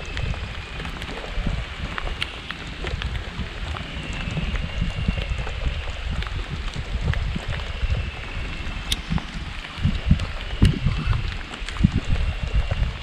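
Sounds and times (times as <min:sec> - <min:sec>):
raindrops pattering: 0:00.0 - 0:13.0
wind rumble on microphone: 0:00.0 - 0:13.0.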